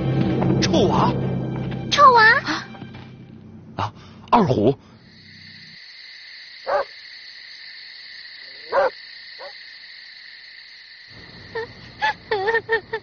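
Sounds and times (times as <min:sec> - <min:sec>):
insects chirring: 0:01.2 - 0:13.0.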